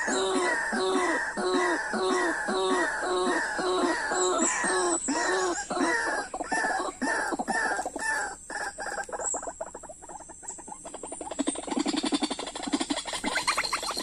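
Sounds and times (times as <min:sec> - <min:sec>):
waterhen croaking calls: 0:00.0 - 0:14.0.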